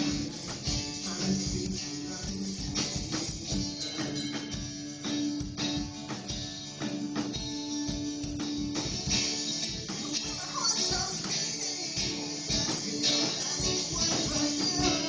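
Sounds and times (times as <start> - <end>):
band playing instrumental: 0.0 - 15.0
tambourine: 0.0 - 15.0.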